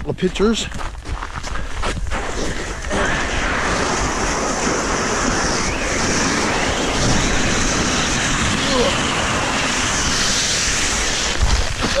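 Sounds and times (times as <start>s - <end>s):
wind across microphone: 0.0s - 12.0s.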